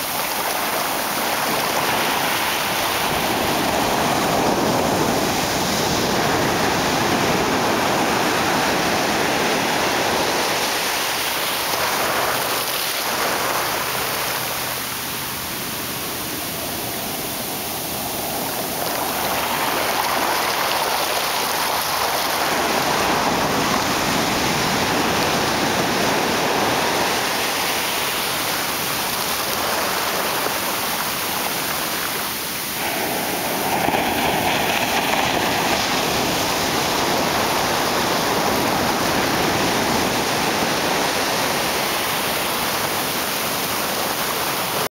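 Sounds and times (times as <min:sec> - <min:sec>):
surf washing over sand: 0:00.0 - 0:44.9.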